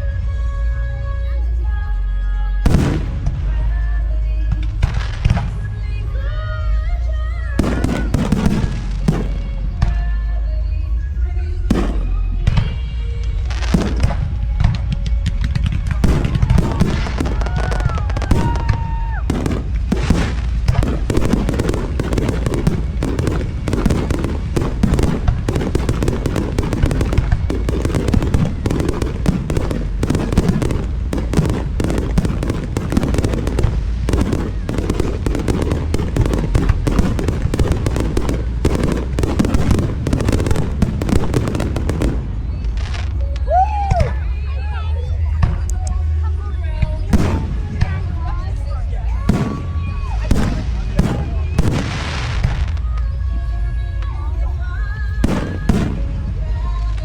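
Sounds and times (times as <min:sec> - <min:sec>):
fireworks bangs and crackling: 0:02.6 - 0:06.5, 0:07.3 - 0:10.1, 0:11.6 - 0:44.2, 0:46.8 - 0:57.0.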